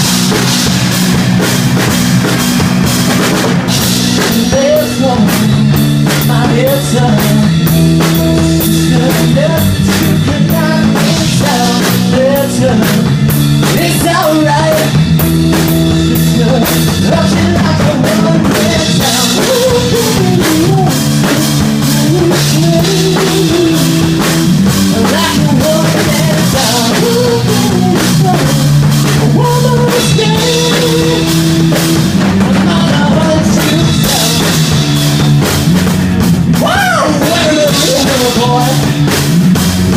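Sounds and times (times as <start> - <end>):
bass and guitar: 0.0 - 39.9
drum kit beat: 0.0 - 39.9.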